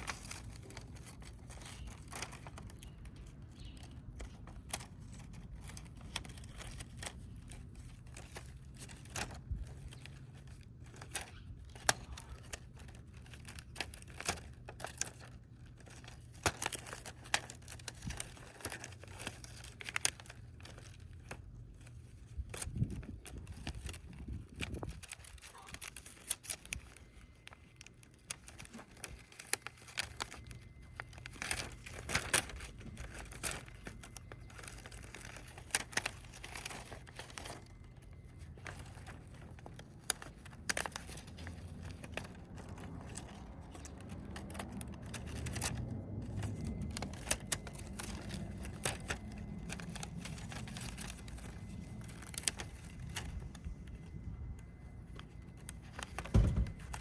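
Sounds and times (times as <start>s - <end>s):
crinkling and clicks of handling: 0.0s - 57.0s.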